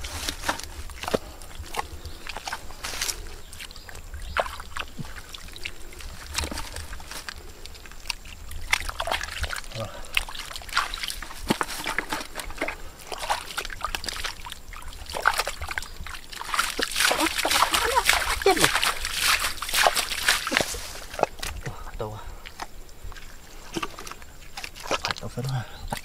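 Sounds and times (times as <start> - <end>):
hands splashing in muddy water: 0.0 - 21.7, 22.5 - 25.3.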